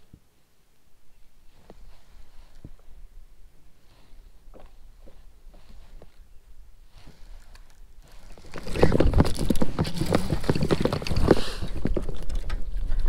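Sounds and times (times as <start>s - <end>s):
rustling: 1.4s - 13.0s.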